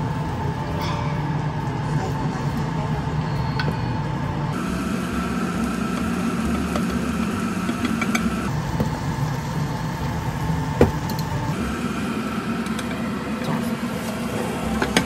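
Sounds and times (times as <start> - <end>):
kitchen appliance humming: 0.0 - 15.0.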